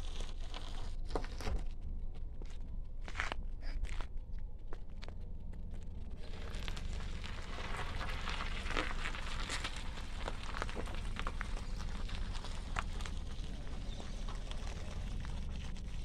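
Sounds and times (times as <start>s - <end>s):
car rumble: 0.0s - 16.0s
car tyres on gritty asphalt: 0.0s - 16.0s.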